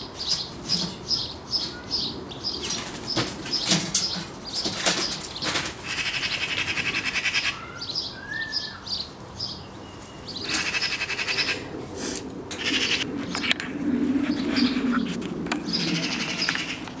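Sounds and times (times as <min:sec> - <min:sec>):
magpies rattling chatter: 0:00.0 - 0:09.6, 0:10.3 - 0:17.0.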